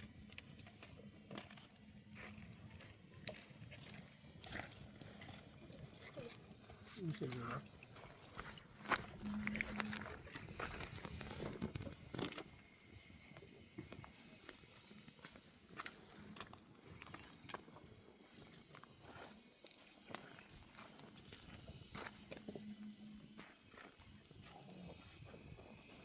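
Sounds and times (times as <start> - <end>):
insect chirping in rapid ticks: 0.0 - 26.0.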